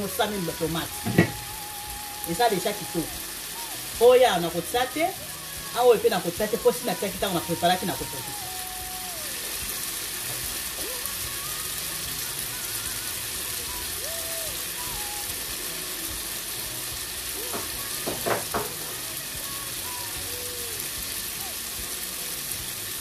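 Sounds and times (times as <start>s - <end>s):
sauce sizzling in a frying pan: 0.0s - 23.0s.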